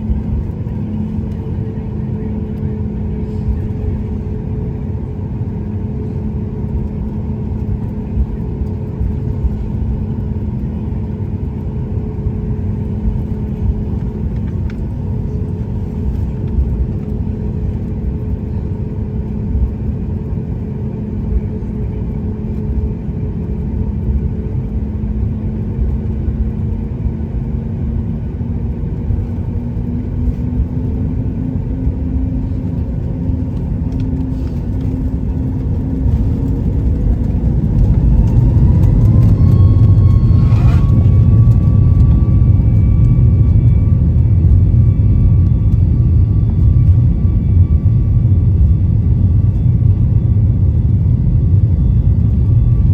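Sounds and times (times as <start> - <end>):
jet engine rumble in cabin: 0.0 - 52.9.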